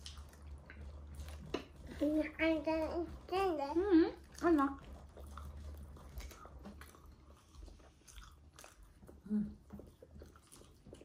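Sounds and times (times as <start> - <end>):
chewing and biting: 0.0 - 2.0, 4.2 - 11.0.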